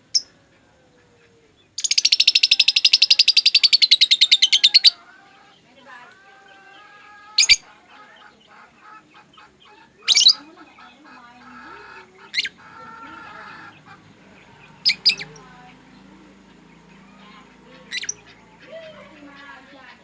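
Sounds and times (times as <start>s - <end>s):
lovebirds chattering softly: 0.0s - 20.0s
lovebirds shrieking: 0.1s - 20.0s.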